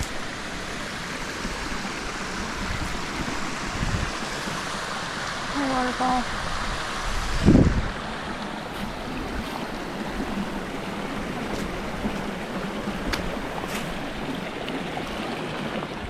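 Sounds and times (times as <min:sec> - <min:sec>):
creek and waterfall rushing: 0:00.0 - 0:16.0.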